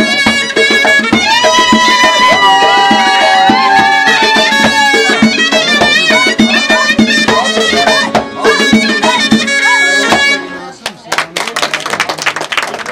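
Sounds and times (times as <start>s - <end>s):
steady drum beat: 0.0s - 10.4s
accordion melody: 0.0s - 10.8s.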